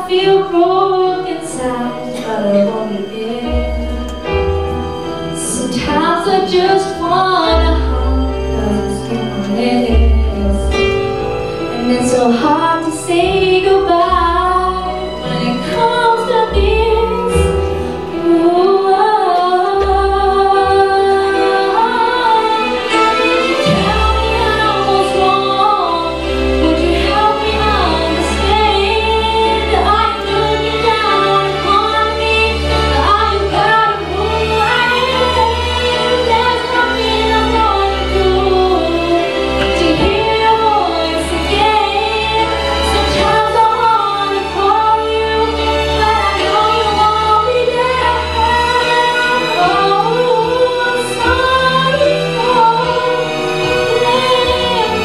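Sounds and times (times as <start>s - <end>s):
woman singing into microphone: 0.0s - 4.4s, 5.4s - 11.0s, 11.7s - 55.0s
instrumental accompaniment with bass: 0.0s - 55.0s.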